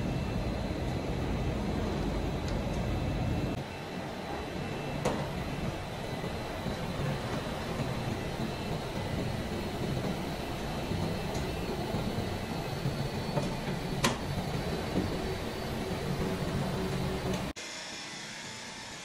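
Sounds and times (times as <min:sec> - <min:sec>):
machinery rumbling and humming: 0:00.0 - 0:19.0.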